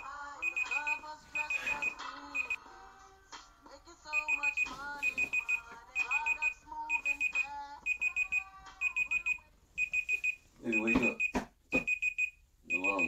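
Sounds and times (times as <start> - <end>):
alarm clock beeping: 0.0 - 2.6, 4.2 - 13.0.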